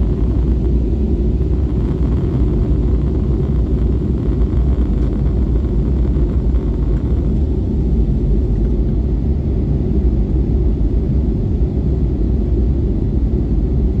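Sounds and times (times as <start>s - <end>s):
jet airliner rumble: 0.0s - 14.0s.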